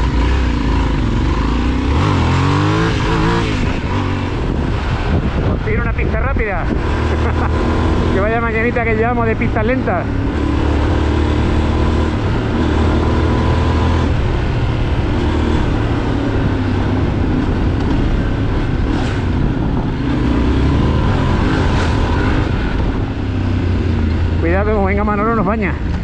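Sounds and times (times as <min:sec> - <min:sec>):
motorcycle engine revving: 0:00.0 - 0:26.0
steady rush of noise: 0:00.0 - 0:26.0.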